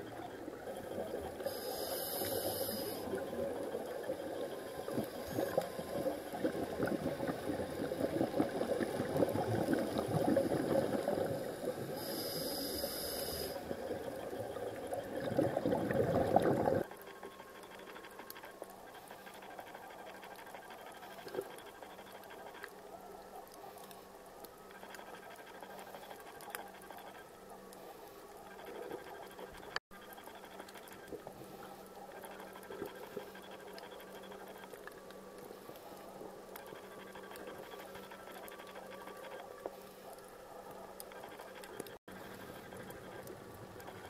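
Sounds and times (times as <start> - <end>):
soft underwater crackling: 0.0 - 44.0.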